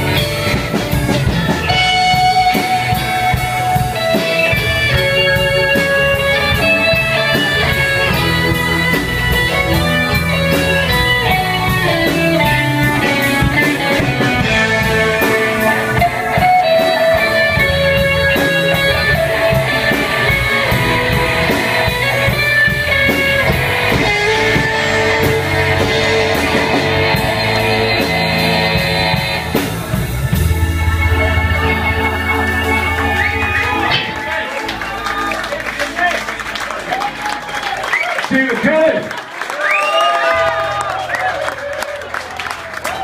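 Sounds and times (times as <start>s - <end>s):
electric guitar melody: 0.0s - 36.5s
bass guitar: 0.0s - 38.0s
keyboard: 0.0s - 43.0s.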